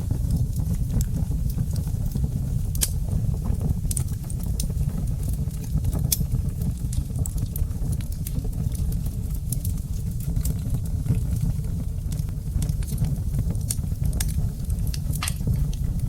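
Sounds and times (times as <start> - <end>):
burning wood crackling and popping: 0.0 - 16.0
low rumble of flames: 0.0 - 16.0.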